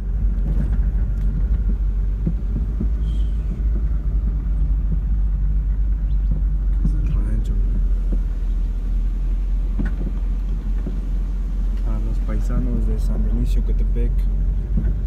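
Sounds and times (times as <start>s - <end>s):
car engine and tyres droning: 0.0s - 15.0s.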